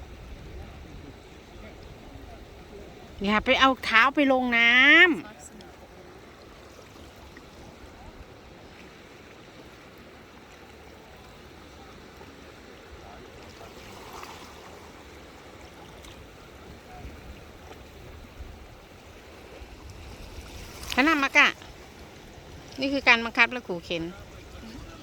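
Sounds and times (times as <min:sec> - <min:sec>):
water washing at shoreline: 0:00.0 - 0:25.0.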